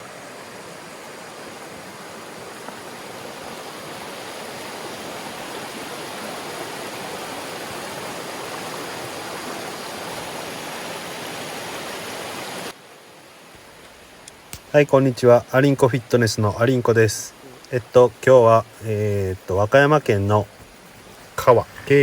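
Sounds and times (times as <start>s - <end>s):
mountain stream flowing: 0.0s - 22.0s.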